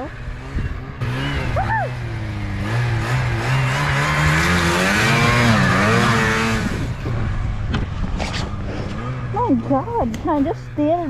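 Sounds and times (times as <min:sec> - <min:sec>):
snowmobile engine revving: 0:00.0 - 0:07.6, 0:08.2 - 0:11.0.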